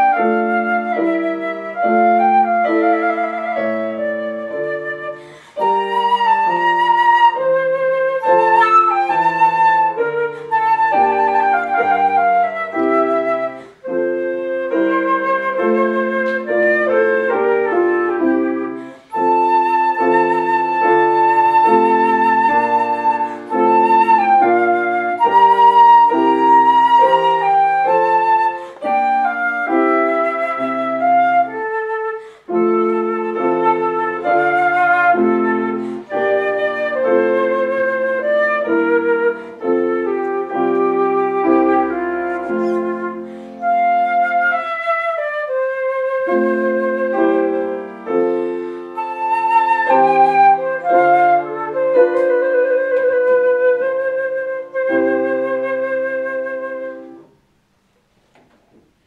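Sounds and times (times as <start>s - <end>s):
flute melody with vibrato: 0.0s - 57.3s
grand piano: 0.0s - 59.0s.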